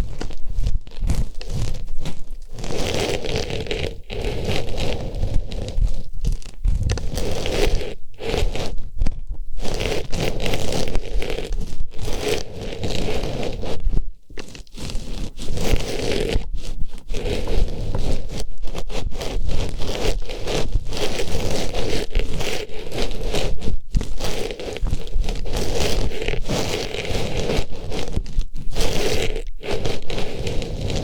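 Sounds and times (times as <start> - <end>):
scratchy rustling on microphone: 0.0 - 31.0.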